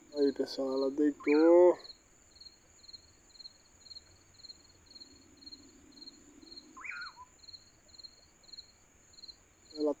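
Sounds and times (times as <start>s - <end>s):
cricket chirping: 0.0s - 10.0s
steady high insect trill: 0.0s - 10.0s.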